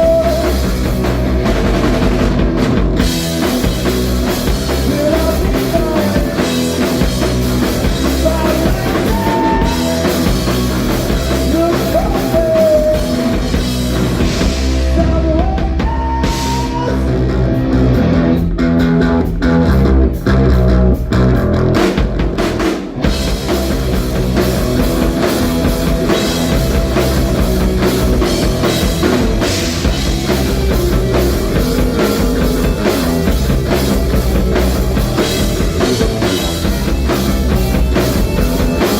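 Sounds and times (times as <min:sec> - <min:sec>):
drum kit: 0:00.0 - 0:38.9
guitar: 0:00.0 - 0:38.9
live rock band playing: 0:00.0 - 0:38.9.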